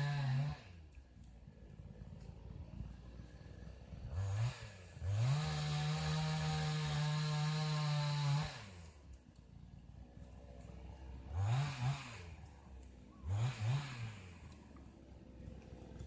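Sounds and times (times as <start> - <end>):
small engine revving: 0.0 - 0.9, 1.7 - 16.0.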